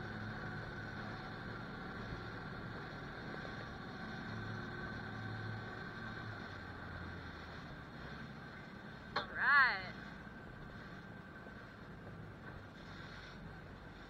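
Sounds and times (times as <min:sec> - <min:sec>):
boat engine droning: 0:00.0 - 0:14.0
rushing water: 0:00.0 - 0:14.0.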